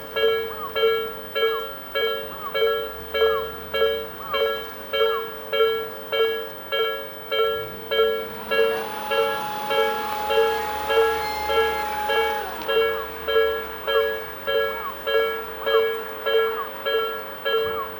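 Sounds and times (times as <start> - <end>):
level crossing warning bell: 0.0 - 17.9.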